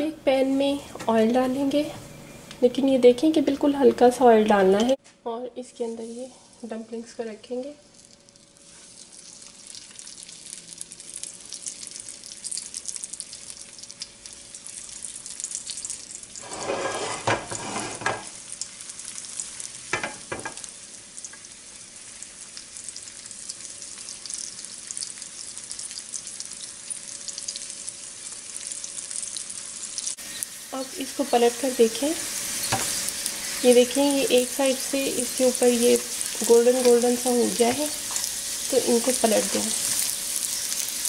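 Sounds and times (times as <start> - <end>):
dumplings sizzling in oil: 5.8 - 41.0.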